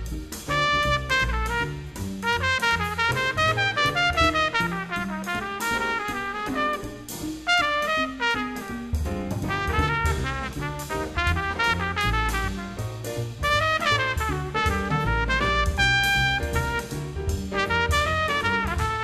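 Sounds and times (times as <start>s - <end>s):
bass and drums: 0.0s - 19.0s
trumpet solo: 0.4s - 19.0s.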